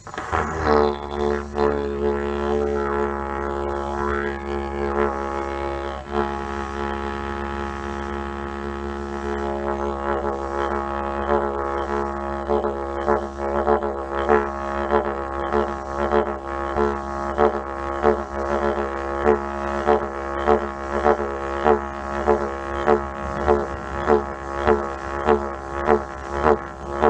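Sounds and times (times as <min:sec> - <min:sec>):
didgeridoo drone: 0:00.0 - 0:27.0.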